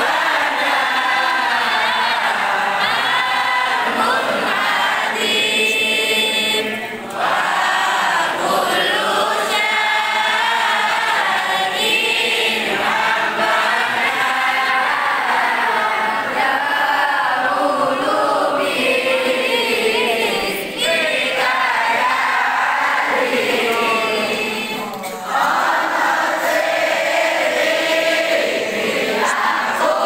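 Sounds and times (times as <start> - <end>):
girls singing in unison: 0.0 - 30.0.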